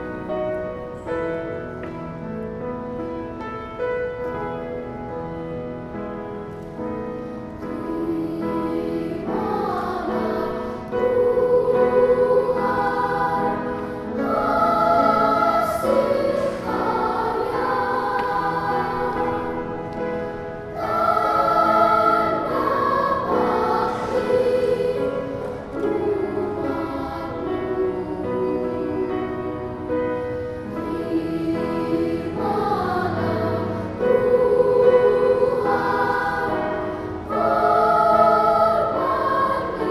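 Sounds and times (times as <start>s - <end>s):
children's choir singing: 6.7s - 39.9s.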